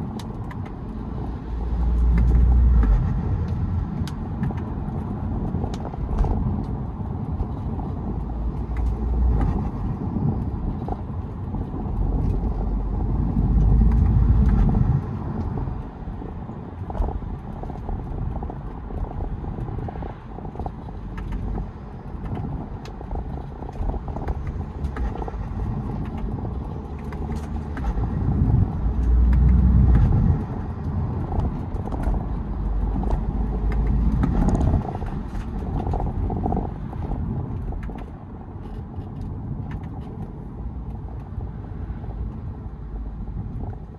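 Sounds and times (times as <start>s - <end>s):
diesel car engine accelerating: 0.0s - 43.9s
road noise: 0.0s - 43.9s.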